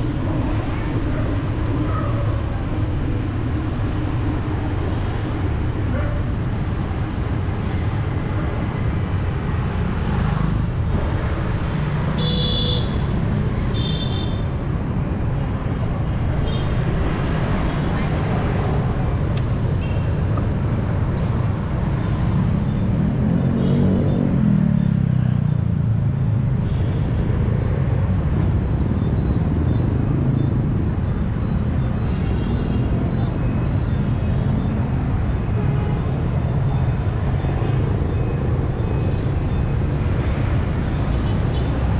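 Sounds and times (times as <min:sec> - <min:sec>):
low traffic rumble: 0:00.0 - 0:41.9.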